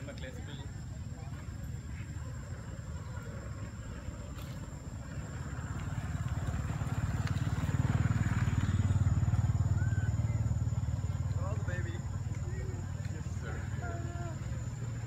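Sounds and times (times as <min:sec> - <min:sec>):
vehicle engine pulsing rumble: 0:00.0 - 0:15.0.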